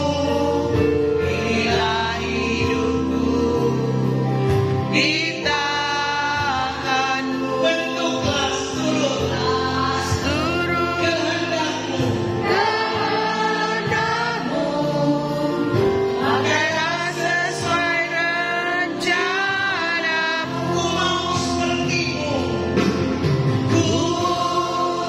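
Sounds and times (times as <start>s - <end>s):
instrumental accompaniment: 0.0s - 25.0s
voices singing worship song: 0.0s - 25.0s.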